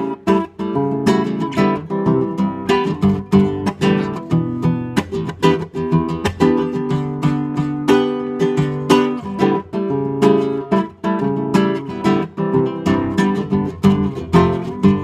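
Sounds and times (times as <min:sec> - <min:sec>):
acoustic guitar strumming and picking: 0:00.0 - 0:15.0.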